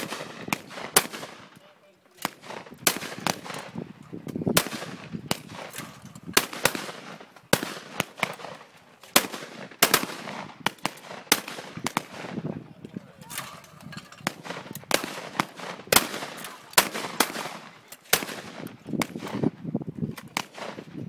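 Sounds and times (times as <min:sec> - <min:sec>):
shotgun blasts: 0:00.0 - 0:01.6, 0:02.2 - 0:03.8, 0:04.5 - 0:12.5, 0:14.2 - 0:19.6, 0:20.2 - 0:21.0.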